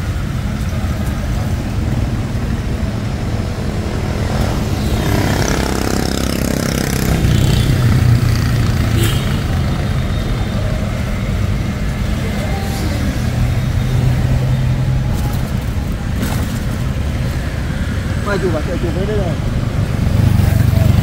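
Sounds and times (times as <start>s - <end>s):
city traffic rumble: 0.0s - 21.0s
motor vehicle passing: 2.2s - 21.0s.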